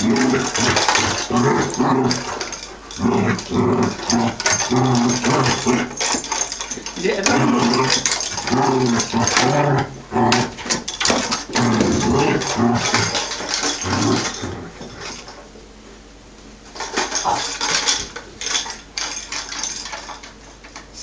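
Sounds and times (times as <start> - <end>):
puppy growling: 0.0 - 15.4, 16.9 - 19.8
light clicking and rattling: 0.0 - 15.6, 16.7 - 21.0.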